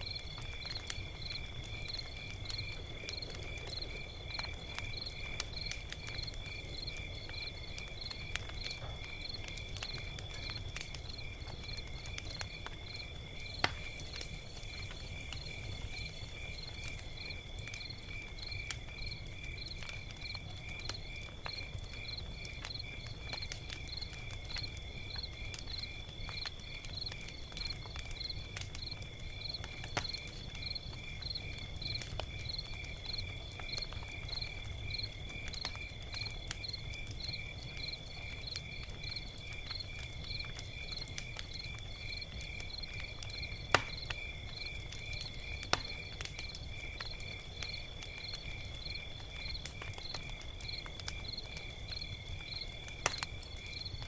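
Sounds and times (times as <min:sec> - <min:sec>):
crickets chirping: 0:00.0 - 0:54.0
log fire crackling and popping: 0:00.0 - 0:54.0.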